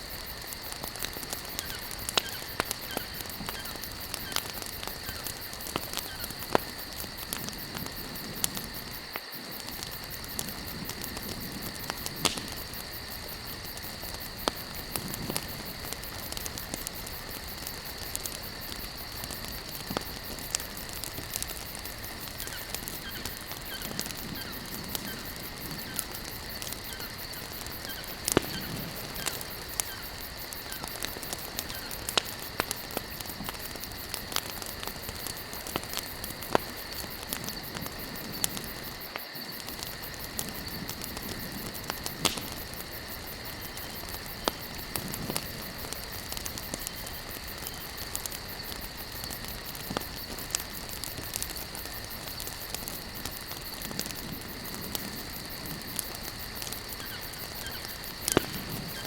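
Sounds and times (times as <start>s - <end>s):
campfire crackling: 0.0s - 59.0s
insects chirring: 0.0s - 59.0s.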